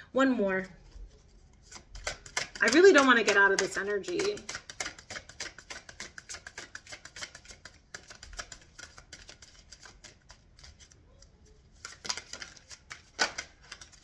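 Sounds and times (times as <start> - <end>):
cards being shuffled: 0.8 - 14.0.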